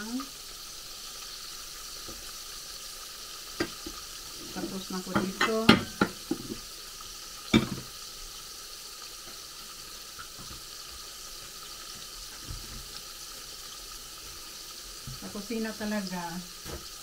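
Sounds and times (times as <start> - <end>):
prawns deep-frying in oil: 0.0 - 17.0.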